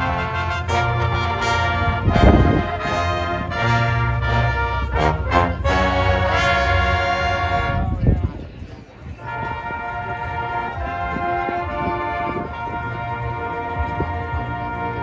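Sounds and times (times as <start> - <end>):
marching band brass chords: 0.0 - 8.2, 9.1 - 15.0.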